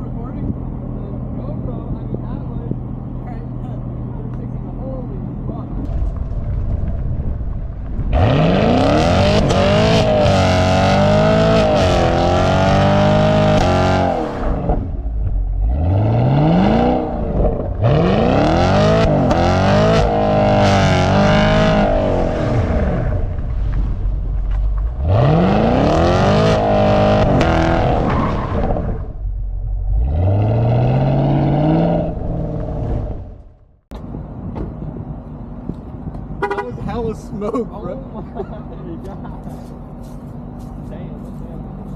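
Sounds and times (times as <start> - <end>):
car engine revving: 0.0 - 33.8.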